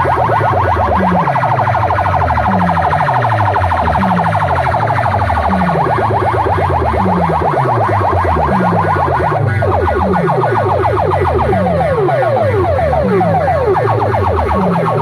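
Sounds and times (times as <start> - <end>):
electronic siren-like music: 0.0 - 15.0.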